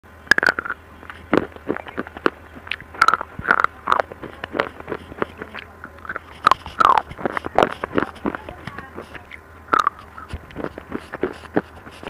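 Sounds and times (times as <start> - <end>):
slate sticks crunching when chewed: 0.3 - 12.0.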